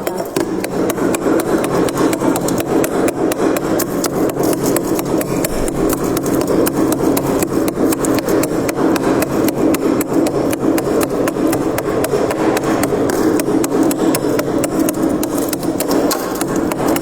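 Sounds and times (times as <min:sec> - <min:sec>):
freezer frost crunching: 0:00.0 - 0:17.0.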